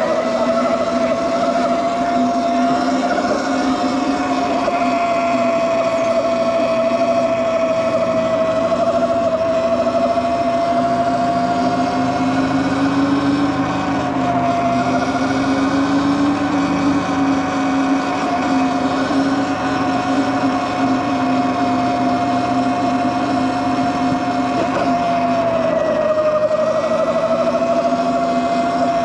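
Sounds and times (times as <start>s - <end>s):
electric bike motor whining: 0.0s - 29.0s
road noise: 0.0s - 29.0s.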